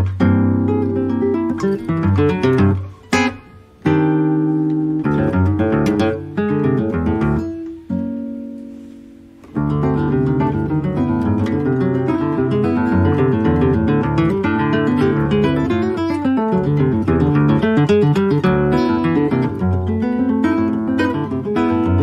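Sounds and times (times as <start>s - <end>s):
classical guitar fingerpicked: 0.0s - 22.0s.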